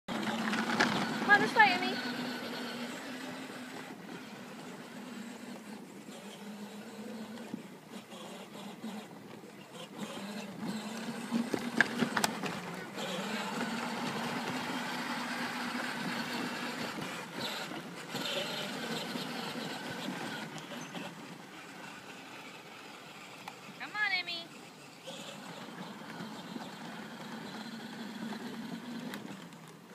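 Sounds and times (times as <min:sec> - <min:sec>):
electric toy motor whine: 0:00.1 - 0:29.8.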